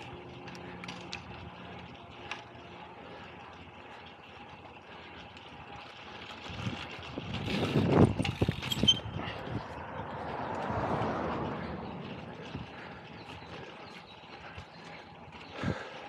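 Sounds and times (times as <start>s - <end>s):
bicycle rattling over rough pavement: 0.0s - 16.0s.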